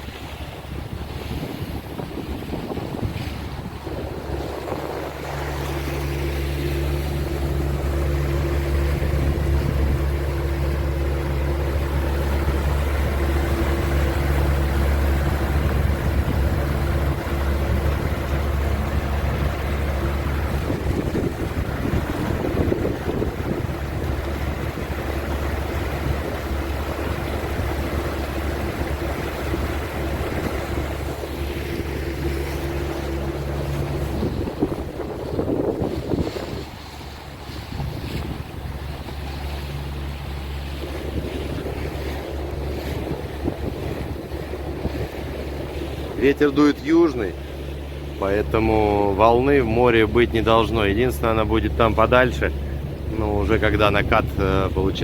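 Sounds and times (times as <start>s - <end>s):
wind noise on microphone: 0.0s - 46.2s
motorboat engine running: 0.0s - 55.0s
water rushing past hull: 0.0s - 55.0s.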